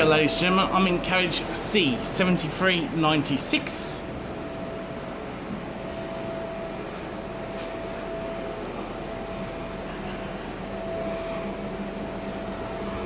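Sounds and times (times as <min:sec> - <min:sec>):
thin constant whine: 0:00.0 - 0:13.0
train carriage hum: 0:00.0 - 0:13.0.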